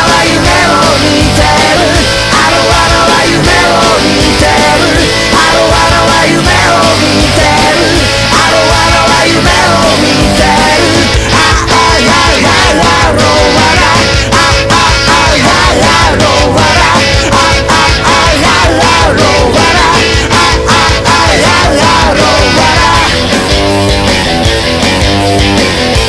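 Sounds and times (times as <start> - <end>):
loud rock music: 0.0 - 26.0.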